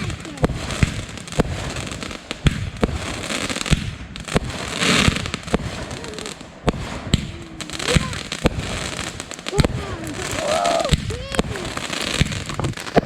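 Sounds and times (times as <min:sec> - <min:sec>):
fireworks bangs and pops: 0:00.0 - 0:13.0
fireworks crackling and hiss: 0:00.0 - 0:13.0.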